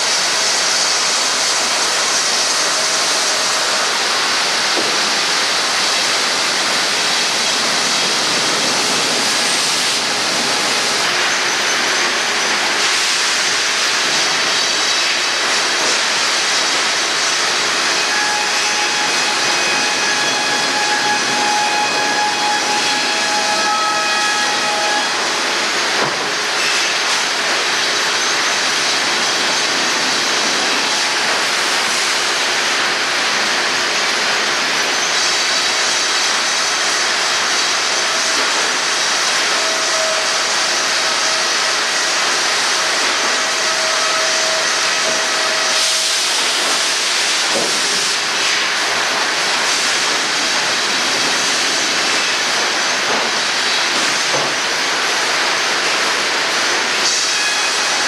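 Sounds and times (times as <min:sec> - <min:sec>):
sawmill machinery hissing din: 0:00.0 - 0:58.0.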